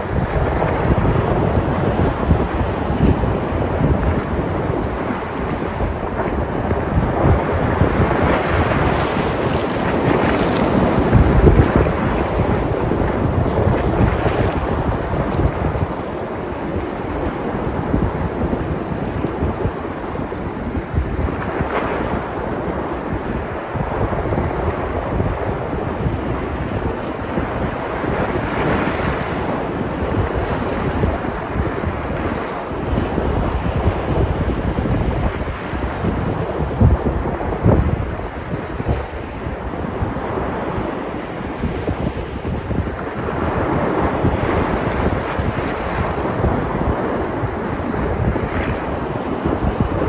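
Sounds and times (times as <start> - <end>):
waves breaking on shore: 0.0 - 50.0
wind buffeting microphone: 0.0 - 50.0.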